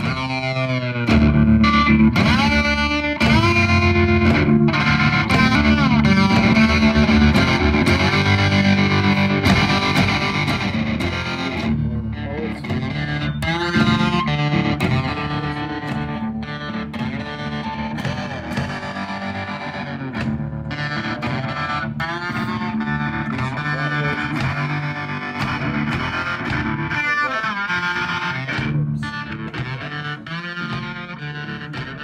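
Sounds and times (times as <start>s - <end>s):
music with electric guitar: 0.0s - 32.0s.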